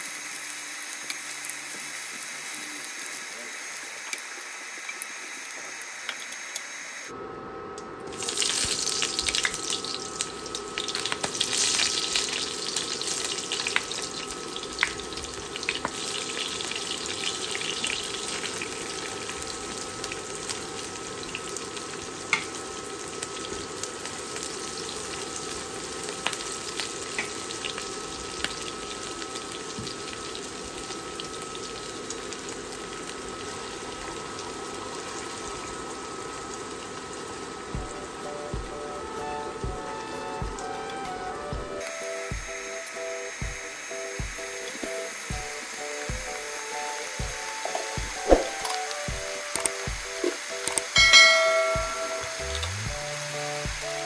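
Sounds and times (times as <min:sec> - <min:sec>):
onion frying in hot oil: 0:00.0 - 0:07.1, 0:08.0 - 0:54.0.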